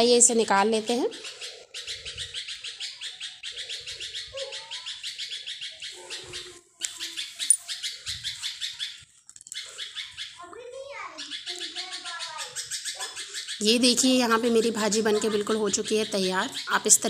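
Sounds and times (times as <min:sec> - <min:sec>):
small bird chirping rapidly: 0:00.3 - 0:17.0.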